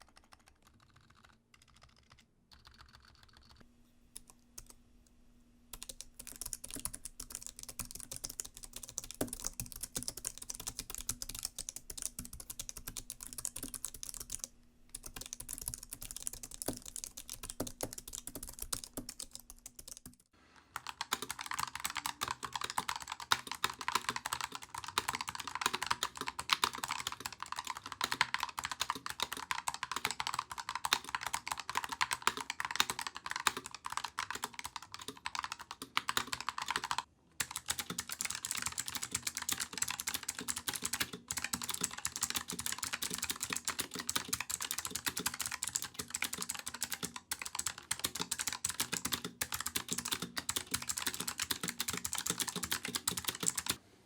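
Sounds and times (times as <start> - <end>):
typing on mechanical keyboard: 0.0 - 3.6, 5.8 - 53.8.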